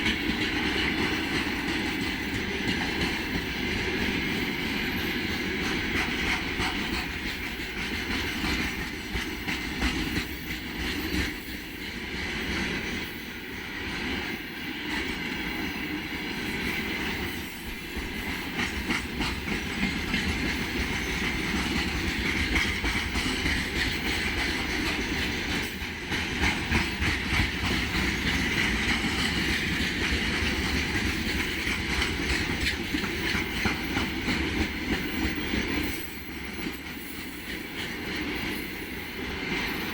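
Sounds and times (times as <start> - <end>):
wheels clicking over rail joints: 0.0 - 13.2, 16.6 - 39.9
freight train rolling past: 0.0 - 39.9.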